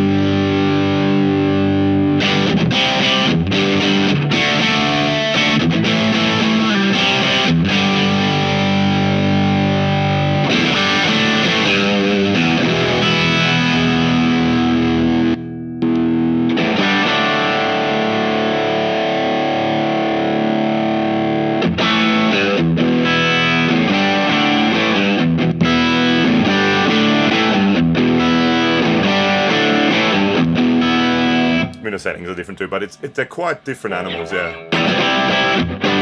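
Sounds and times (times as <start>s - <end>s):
distorted electric guitar chords: 0.0s - 33.2s, 33.9s - 36.0s.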